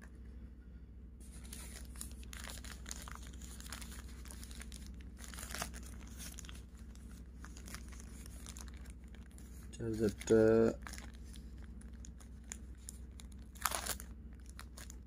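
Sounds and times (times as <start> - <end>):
steady low hum: 0.0 - 15.0
plastic bags crinkling: 1.3 - 15.0.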